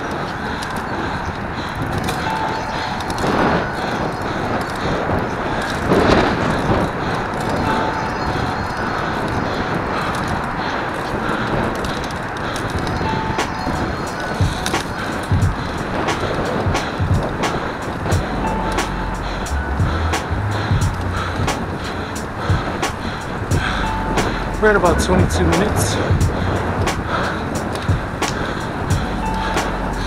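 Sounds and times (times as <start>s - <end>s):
bicycle tyre noise: 0.0s - 30.0s
rushing wind: 0.0s - 30.0s.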